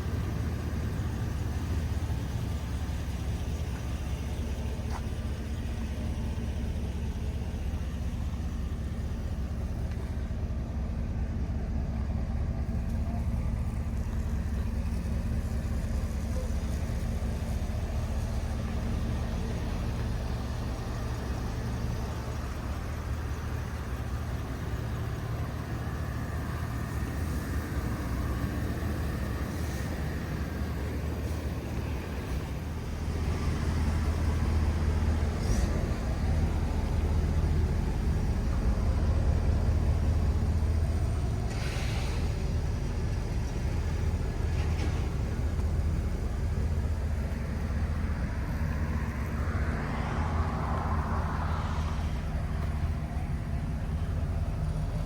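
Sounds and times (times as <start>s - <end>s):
pickup engine humming: 0.0s - 55.0s.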